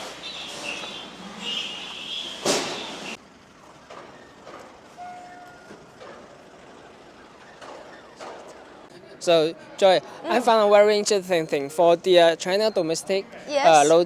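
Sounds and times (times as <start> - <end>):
factory background noise: 0.0 - 12.5.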